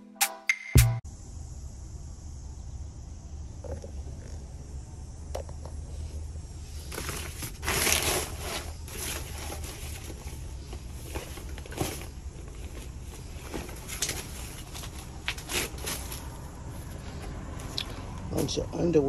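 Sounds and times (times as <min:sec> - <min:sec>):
steady low hum: 0:01.0 - 0:19.0.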